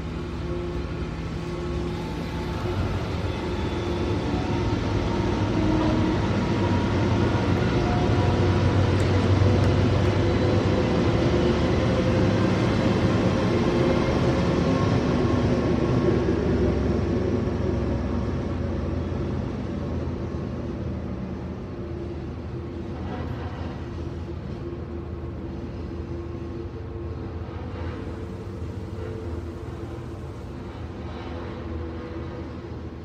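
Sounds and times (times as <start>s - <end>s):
train running: 0.0s - 33.0s.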